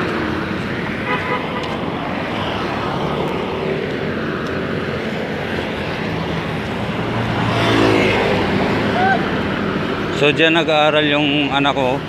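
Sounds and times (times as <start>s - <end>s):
highway traffic rushing: 0.0s - 12.0s
vehicle engine: 0.0s - 12.0s.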